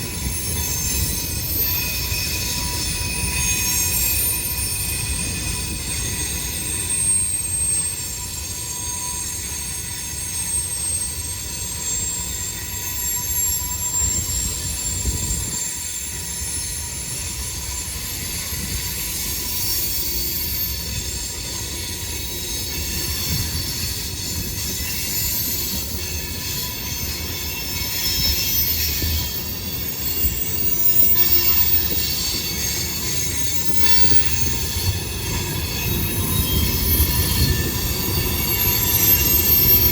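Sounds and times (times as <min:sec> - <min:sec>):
freight train cars rolling: 0:00.0 - 0:39.9
high-pitched wheel squeal: 0:00.0 - 0:39.9.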